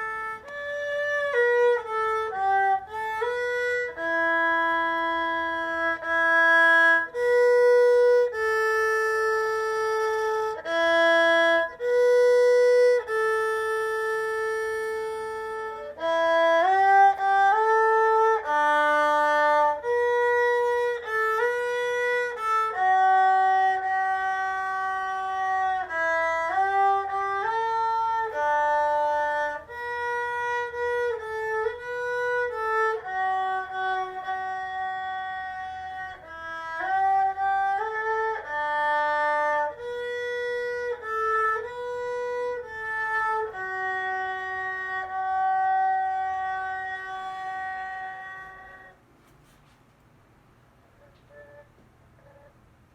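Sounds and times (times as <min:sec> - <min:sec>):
erhu bowed melody: 0:00.0 - 0:49.6, 0:51.0 - 0:52.5.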